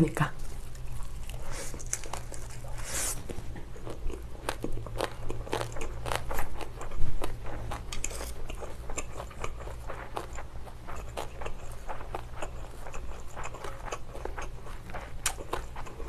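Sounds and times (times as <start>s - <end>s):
wet crunchy chewing: 0.4s - 16.0s.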